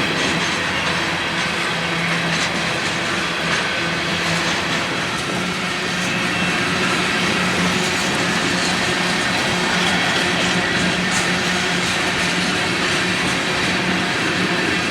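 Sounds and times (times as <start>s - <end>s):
train wheels on rails: 0.0s - 14.9s.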